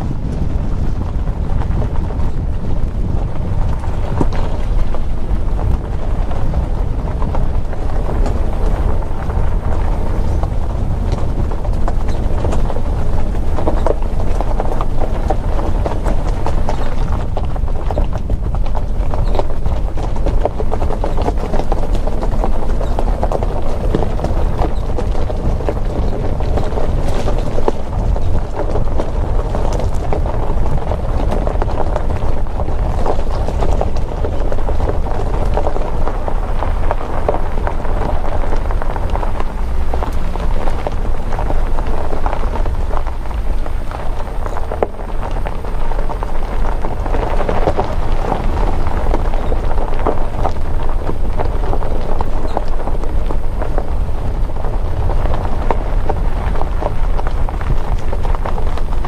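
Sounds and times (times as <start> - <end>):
car rumble: 0.0 - 59.0
tyres crunching on gravel: 0.0 - 59.0.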